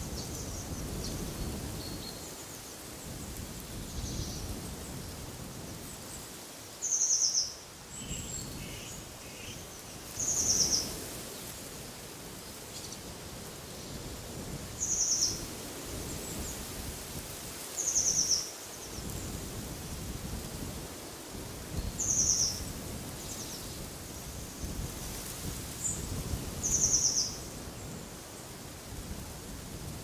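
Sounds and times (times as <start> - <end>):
wind in trees: 0.0 - 30.0.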